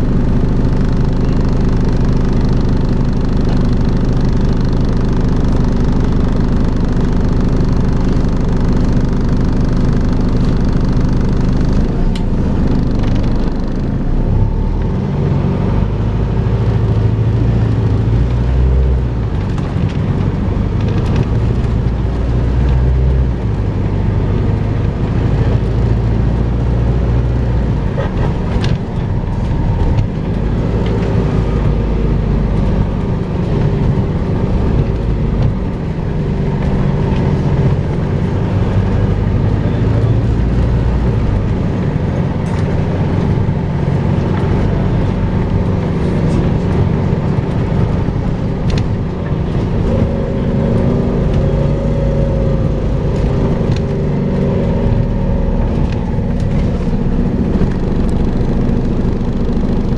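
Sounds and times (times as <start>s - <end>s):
bus whine: 0.0s - 59.9s
diesel engine rumble: 0.0s - 59.9s.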